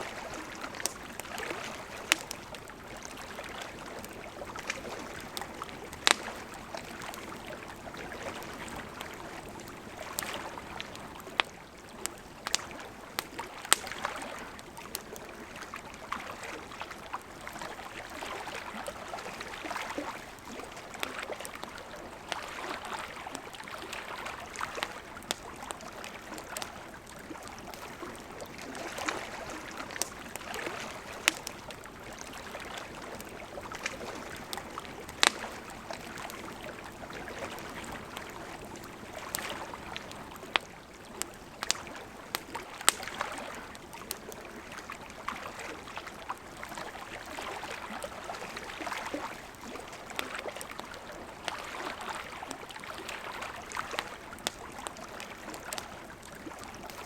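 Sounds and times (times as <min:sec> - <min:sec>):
campfire crackling and popping: 0:00.0 - 0:57.0
lake water lapping: 0:00.0 - 0:57.0.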